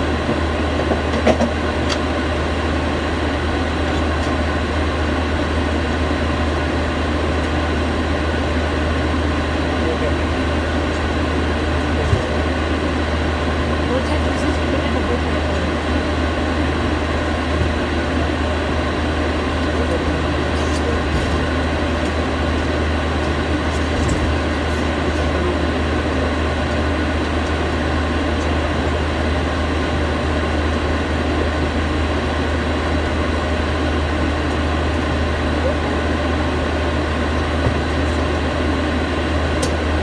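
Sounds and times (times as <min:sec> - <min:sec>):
aircraft engine rumble: 0:00.0 - 0:40.0.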